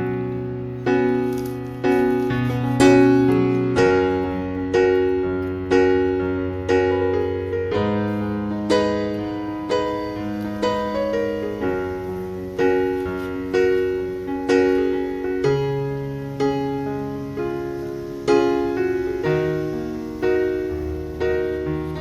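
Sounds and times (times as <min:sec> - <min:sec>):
gentle solo piano music: 0:00.0 - 0:22.0.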